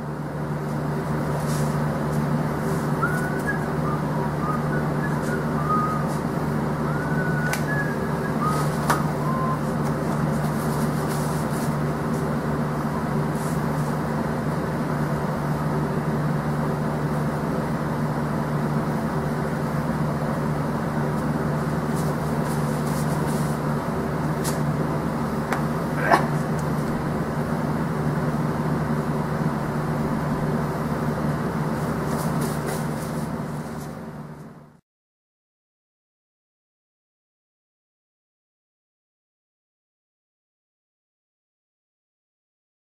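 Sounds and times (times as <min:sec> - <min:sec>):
low machine hum: 0:00.0 - 0:34.8.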